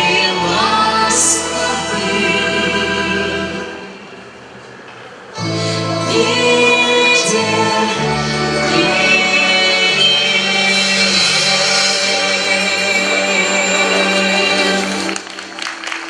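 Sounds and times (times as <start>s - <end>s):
folk instrument orchestra chords: 0.0s - 16.0s
wavering held voices: 0.0s - 16.0s.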